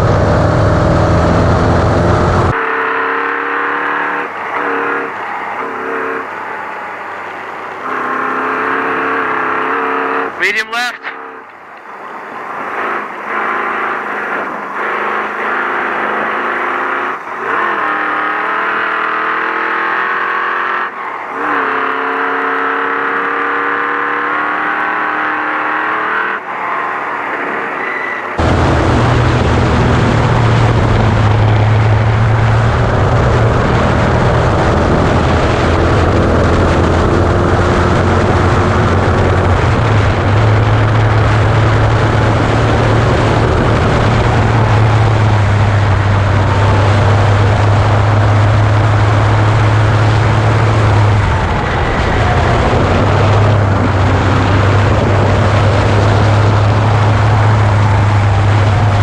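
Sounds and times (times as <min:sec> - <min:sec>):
rushing noise: 0:00.0 - 0:59.0
truck engine running hard: 0:00.0 - 0:59.0.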